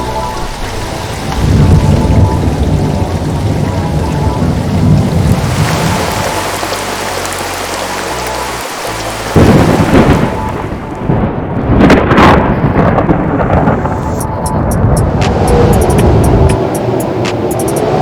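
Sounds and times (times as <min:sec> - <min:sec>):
steady rain: 0:00.0 - 0:18.0
thunder rumbling and cracking: 0:00.6 - 0:06.4, 0:09.4 - 0:18.0.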